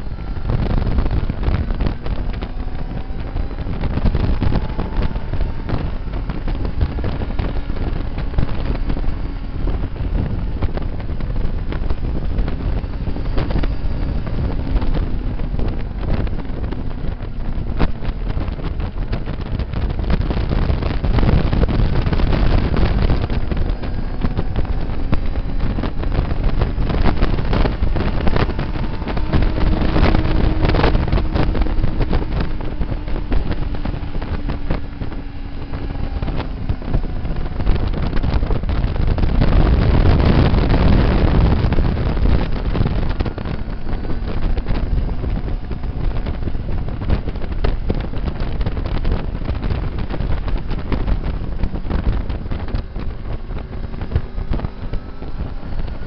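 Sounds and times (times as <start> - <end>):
motorcycle engine: 0.0 - 56.0
wind buffeting microphone: 0.0 - 56.0.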